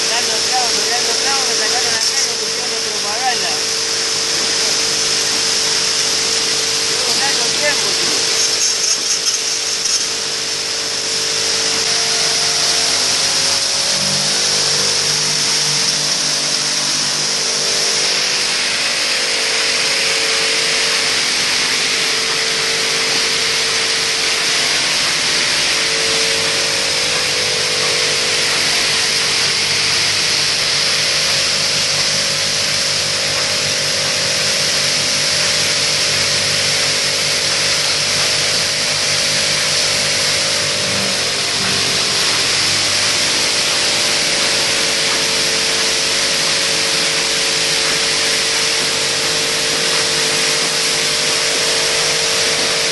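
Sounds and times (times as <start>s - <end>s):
welding machine hissing and humming: 0.0s - 52.9s.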